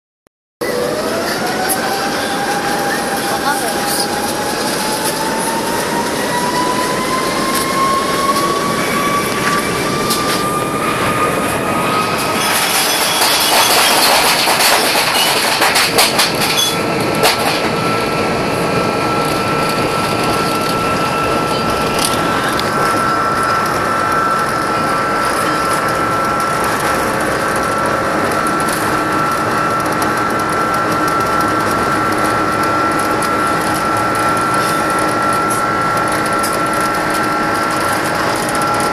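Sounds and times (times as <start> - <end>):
jet engines spooling up: 0.6 - 38.9.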